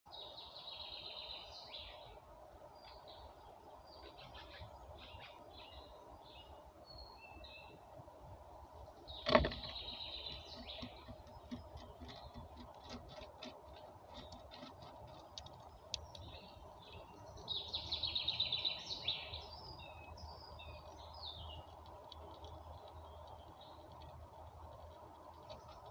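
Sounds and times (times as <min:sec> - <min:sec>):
songbirds chirping: 0:00.1 - 0:25.9.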